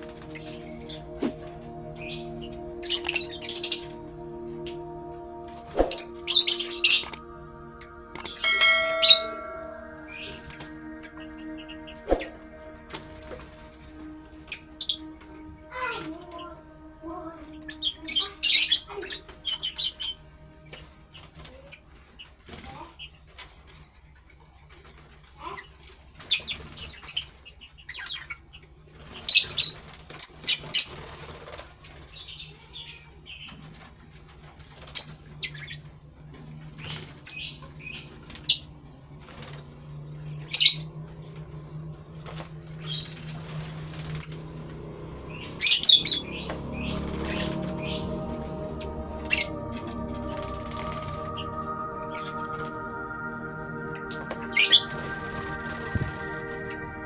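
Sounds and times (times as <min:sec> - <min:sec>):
faint low hum: 0:00.0 - 0:23.0, 0:30.9 - 0:57.0.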